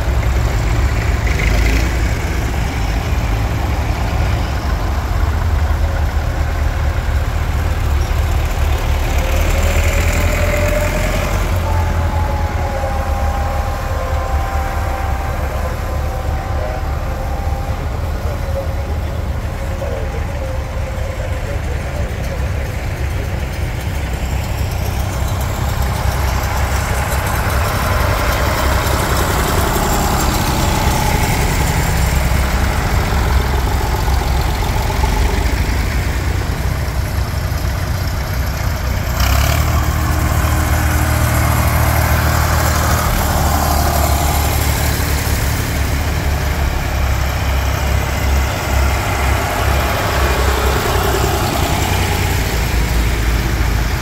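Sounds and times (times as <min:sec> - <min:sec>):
heavy engine running: 0:00.0 - 0:54.0.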